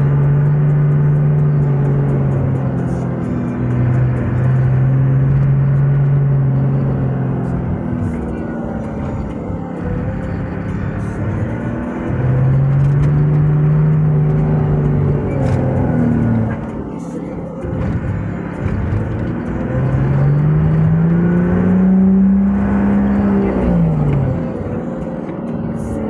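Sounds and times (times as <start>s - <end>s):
vehicle engine accelerating: 0.0s - 26.0s.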